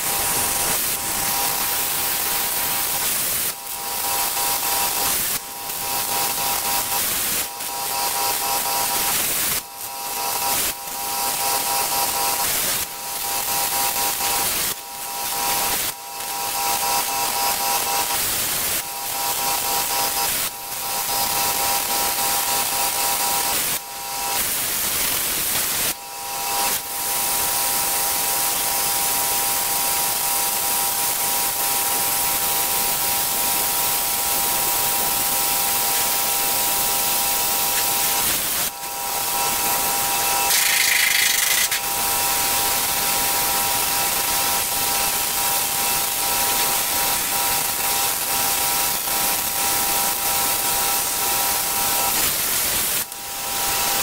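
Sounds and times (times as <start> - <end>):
machine hissing and whining: 0.0 - 20.0, 27.2 - 54.0.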